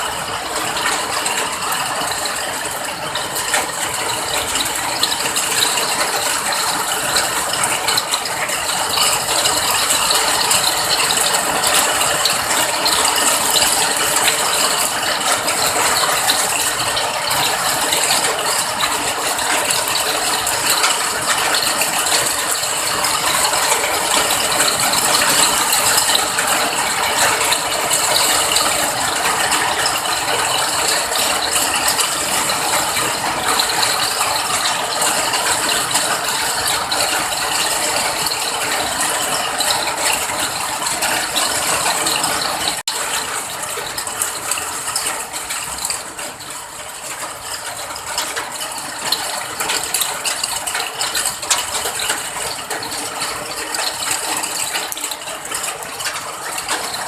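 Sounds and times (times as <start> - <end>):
heavy rain patter: 0.0 - 57.0.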